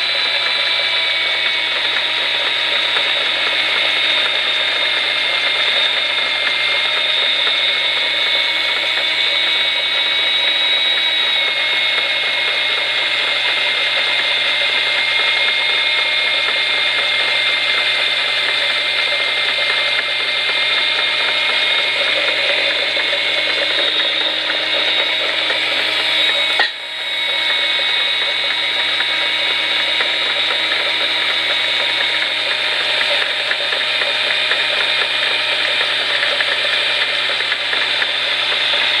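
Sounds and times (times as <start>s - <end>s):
die grinder high whine: 0.0s - 39.0s.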